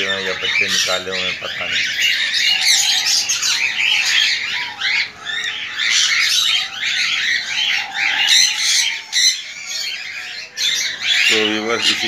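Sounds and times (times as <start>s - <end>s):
cage birds chirping and squawking: 0.0s - 12.0s.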